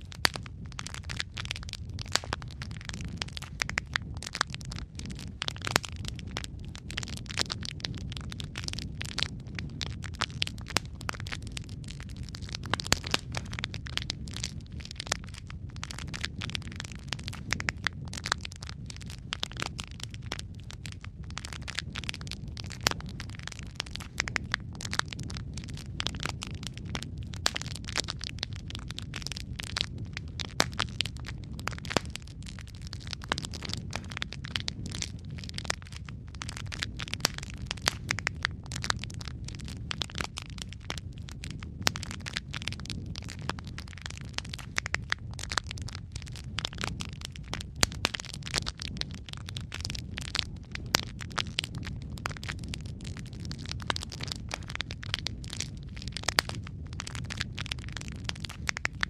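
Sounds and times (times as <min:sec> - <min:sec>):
low rumble of flame: 0:00.0 - 0:59.0
wood fire crackling: 0:00.0 - 0:59.0.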